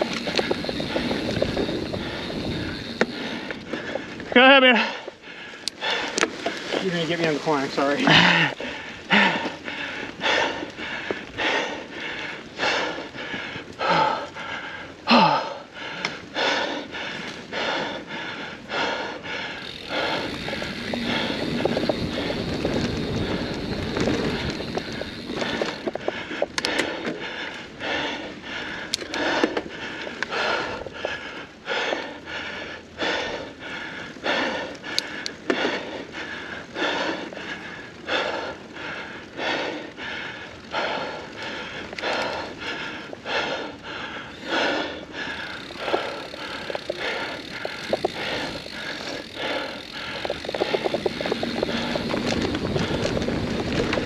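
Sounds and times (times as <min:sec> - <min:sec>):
person breathing hard: 0:00.0 - 0:07.0, 0:08.0 - 0:54.0
bike rolling on trail: 0:00.0 - 0:54.0.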